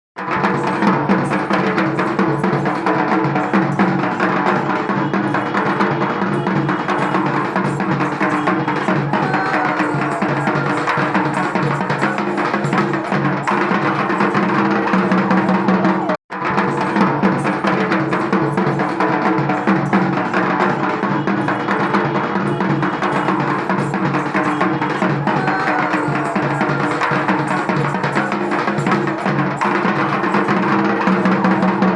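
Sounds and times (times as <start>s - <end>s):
music with drum beat: 0.2s - 31.9s.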